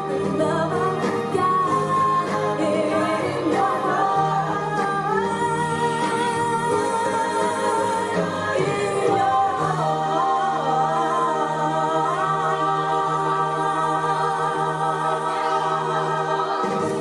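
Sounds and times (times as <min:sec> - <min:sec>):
children's song with instruments: 0:00.0 - 0:17.0.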